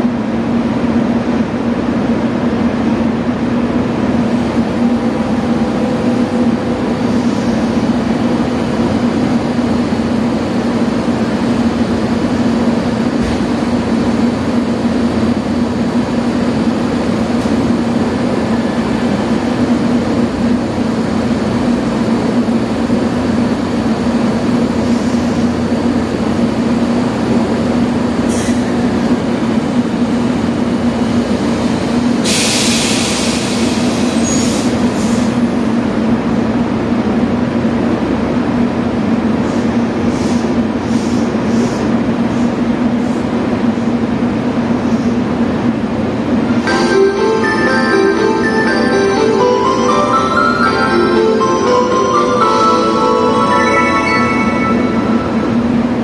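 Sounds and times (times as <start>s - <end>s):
electric train equipment humming: 0.0s - 56.0s.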